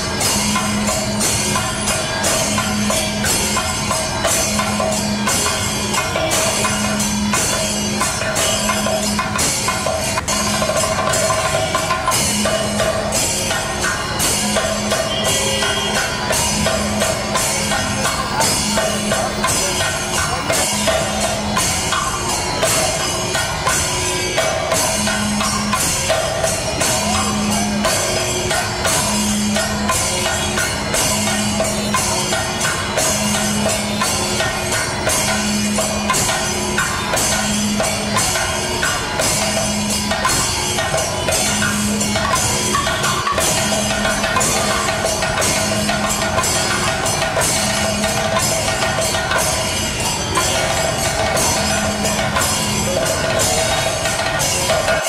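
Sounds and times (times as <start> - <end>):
cymbal strikes: 0.0 - 55.0
music with percussion beat: 0.0 - 55.0.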